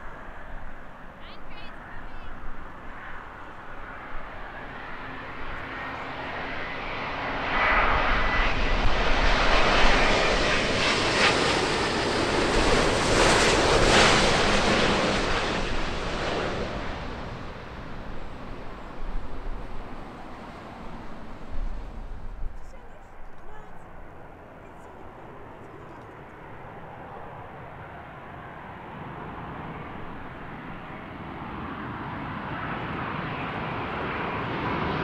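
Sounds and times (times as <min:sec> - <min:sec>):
faint high engine whine: 0:00.0 - 0:35.0
jet airliner passing overhead: 0:00.0 - 0:35.0.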